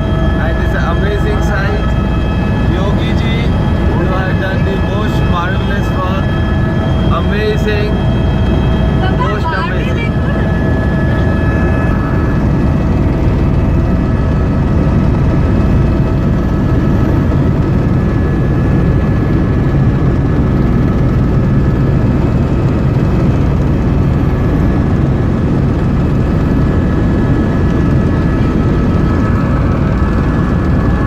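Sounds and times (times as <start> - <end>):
constant high whine: 0.0 - 31.0
helicopter engine and rotor drone: 0.0 - 31.0.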